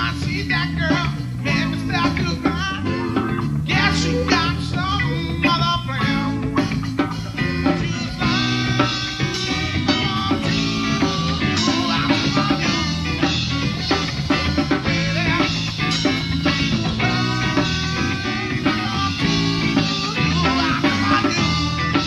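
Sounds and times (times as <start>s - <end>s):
drum kit: 0.0s - 22.0s
electric guitar: 0.0s - 22.0s
man singing: 0.0s - 22.0s.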